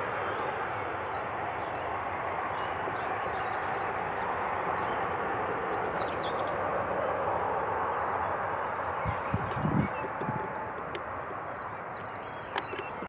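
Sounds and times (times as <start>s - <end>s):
distant jet engine noise: 0.0s - 13.0s
birds chirping: 0.1s - 6.9s, 7.5s - 13.0s.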